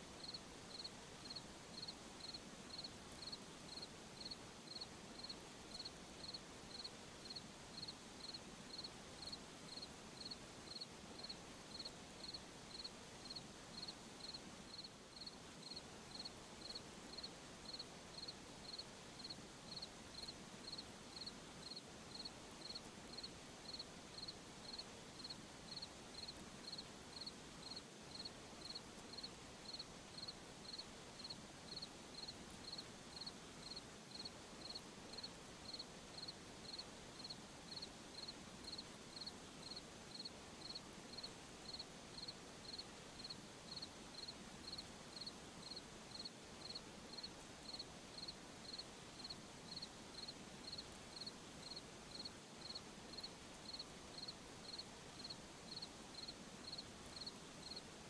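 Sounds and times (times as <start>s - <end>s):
faint night ambience hiss: 0.0s - 58.0s
cricket chirping: 0.2s - 57.8s.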